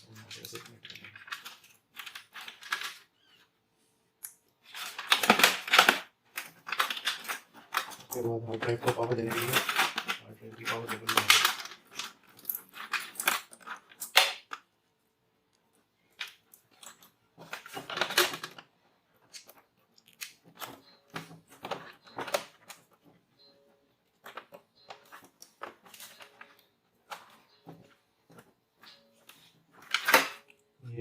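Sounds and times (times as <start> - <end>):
cables clicking and rustling: 0.0 - 14.8, 15.4 - 31.0.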